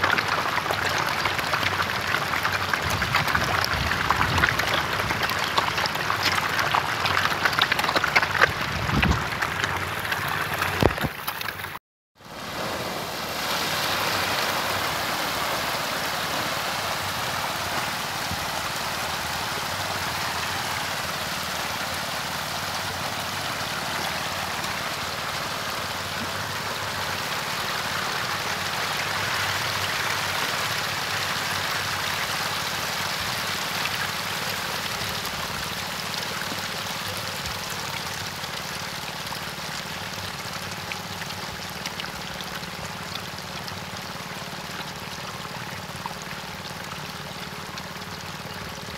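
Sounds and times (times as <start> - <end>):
fish splashing at water surface: 0.0 - 11.8, 12.4 - 48.9.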